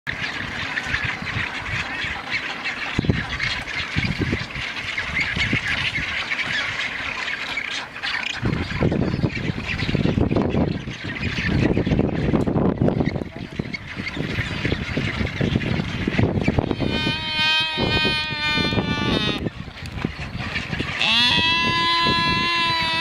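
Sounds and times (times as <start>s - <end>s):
seabirds squawking and calling: 0.1s - 23.0s.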